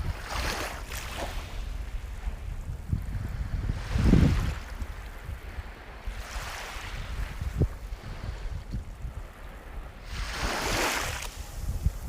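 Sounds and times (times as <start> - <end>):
low rumble of the sea: 0.0 - 12.0.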